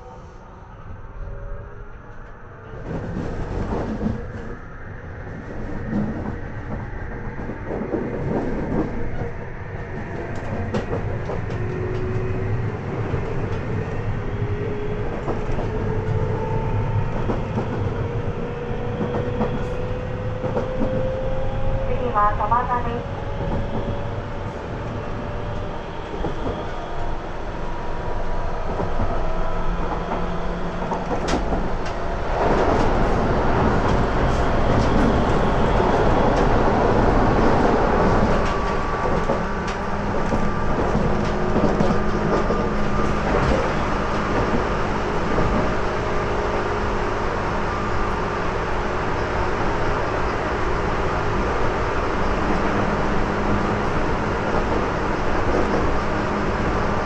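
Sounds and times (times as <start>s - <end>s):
train wheels rumbling on rails: 2.1s - 57.0s.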